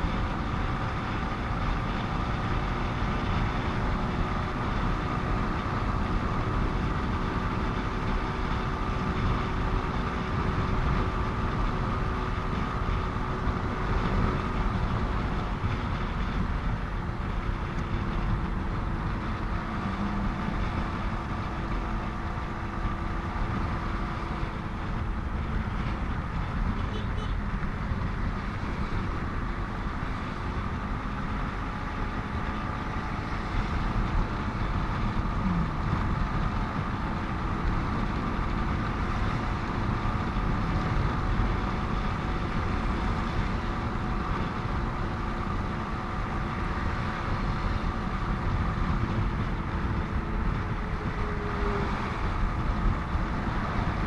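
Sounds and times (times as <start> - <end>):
motorcycle engine hum: 0.0 - 54.0
road traffic: 0.0 - 54.0.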